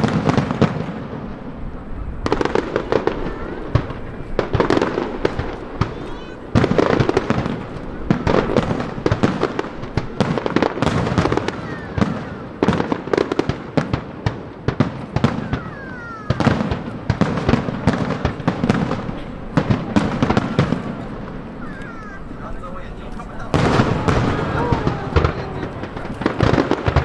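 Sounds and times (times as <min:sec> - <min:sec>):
fireworks bangs and crackles: 0:00.0 - 0:27.0
falling firework whistles: 0:02.2 - 0:13.9, 0:14.8 - 0:22.4, 0:23.5 - 0:27.0.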